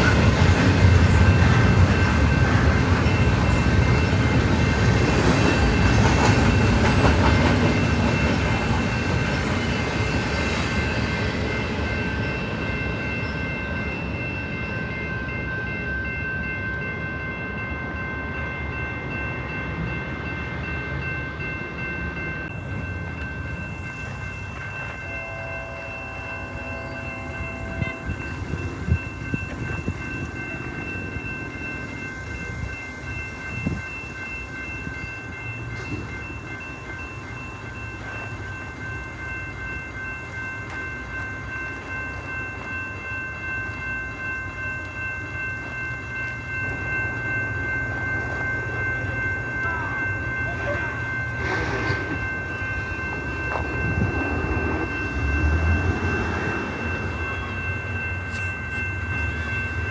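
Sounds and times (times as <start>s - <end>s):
train rumbling past: 0.0s - 59.9s
high-pitched ringing: 1.0s - 59.9s.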